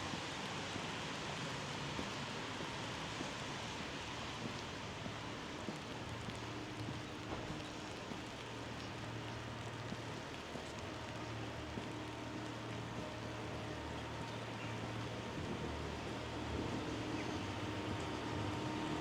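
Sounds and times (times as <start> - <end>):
light rain pattering: 0.0 - 19.0.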